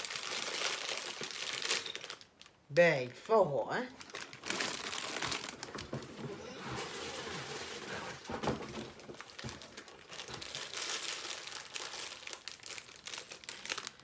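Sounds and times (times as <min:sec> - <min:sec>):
plastic bags crinkling: 0:00.0 - 0:02.6, 0:03.9 - 0:14.0.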